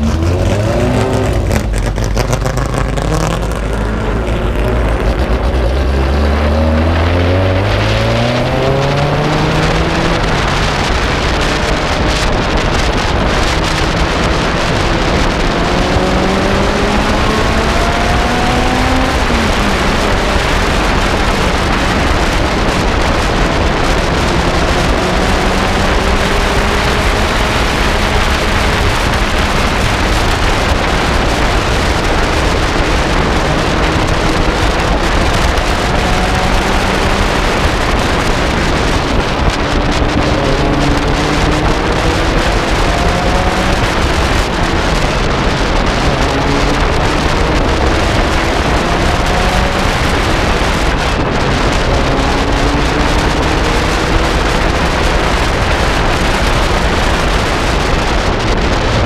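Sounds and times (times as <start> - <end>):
sports car engine accelerating: 0.0 - 59.0
wind rush on microphone: 0.0 - 59.0.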